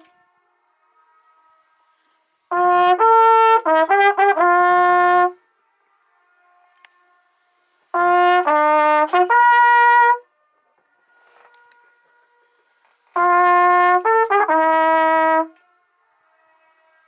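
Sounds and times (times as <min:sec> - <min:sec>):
faint trumpet echo: 0:00.0 - 0:05.4, 0:06.0 - 0:17.0
trumpet playing: 0:00.0 - 0:05.4, 0:06.6 - 0:10.3, 0:11.1 - 0:17.0.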